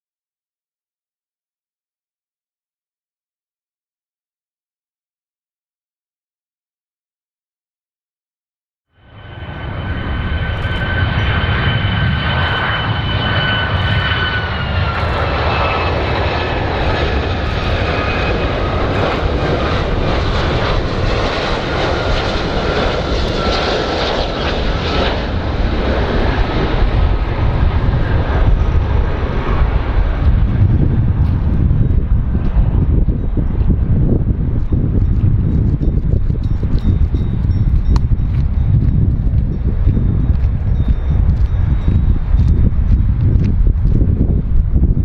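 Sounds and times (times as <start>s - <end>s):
airplane engines roaring: 8.9s - 45.0s
high engine whine: 9.0s - 45.0s.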